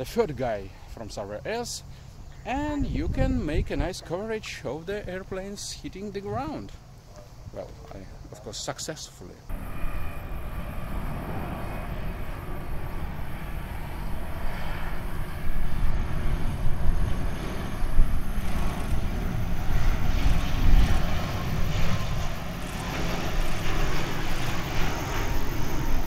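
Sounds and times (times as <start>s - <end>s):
turboprop airliner engines: 0.0s - 26.0s.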